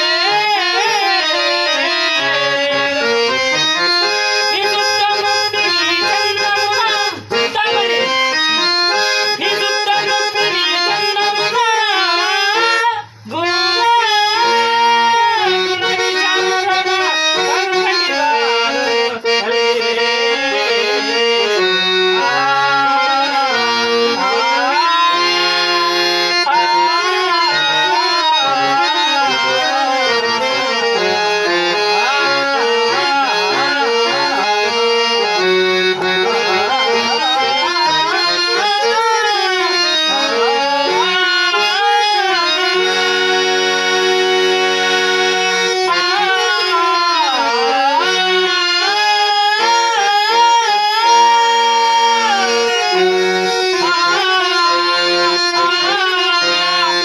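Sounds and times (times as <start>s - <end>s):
harmonium chords: 0.0s - 57.0s
man singing ornamented melody: 0.0s - 57.0s.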